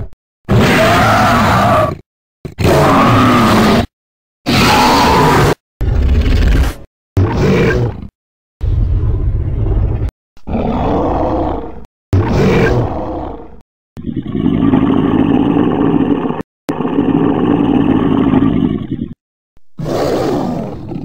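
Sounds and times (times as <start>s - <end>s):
dinosaur roars and growls: 0.0s - 3.9s, 4.5s - 19.2s, 19.8s - 21.0s.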